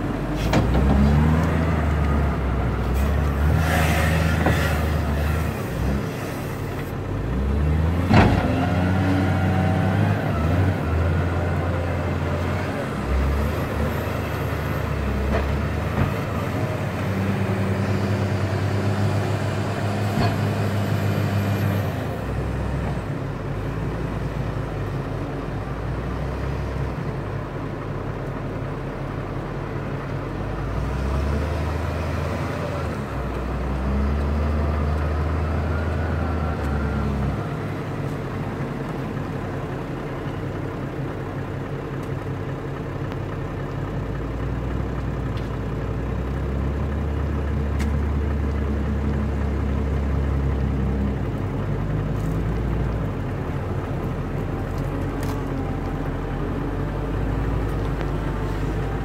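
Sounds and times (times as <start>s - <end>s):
diesel engine working under load: 0.0s - 59.0s.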